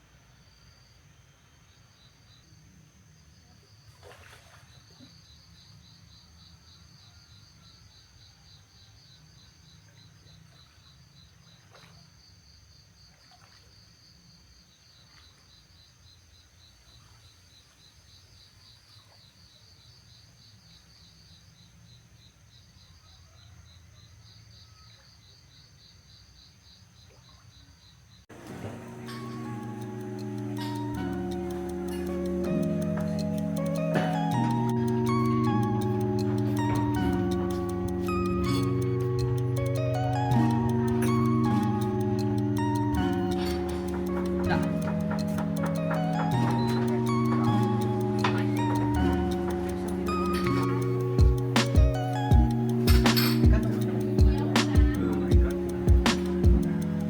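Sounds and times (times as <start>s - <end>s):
insects trilling: 0.3s - 57.0s.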